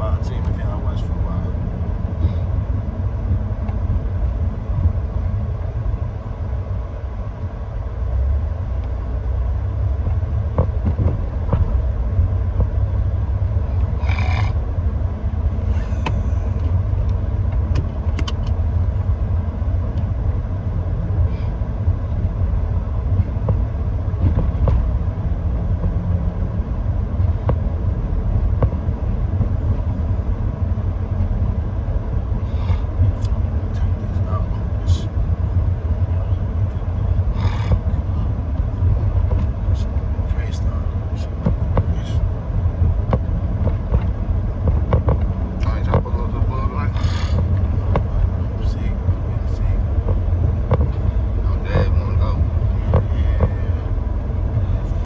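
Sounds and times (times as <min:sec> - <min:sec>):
car engine rumble: 0:00.0 - 0:55.0
road noise inside car: 0:00.0 - 0:55.0.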